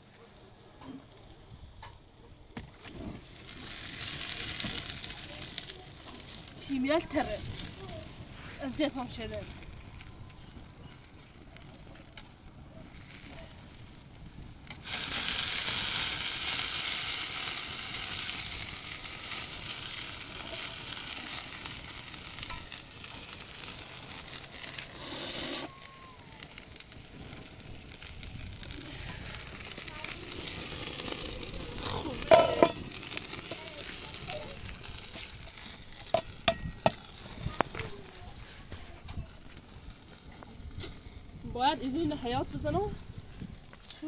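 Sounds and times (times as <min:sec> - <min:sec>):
food sizzling in hot oil: 0:02.8 - 0:44.0.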